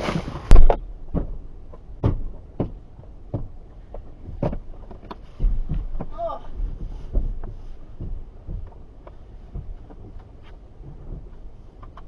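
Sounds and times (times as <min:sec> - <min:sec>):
low vehicle rumble: 0:00.0 - 0:12.0
light clicks and knocks: 0:00.1 - 0:12.0.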